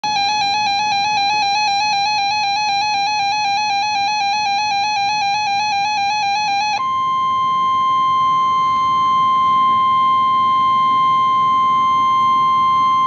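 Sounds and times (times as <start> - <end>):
warbling electronic alarm tone: 0.0 - 13.0.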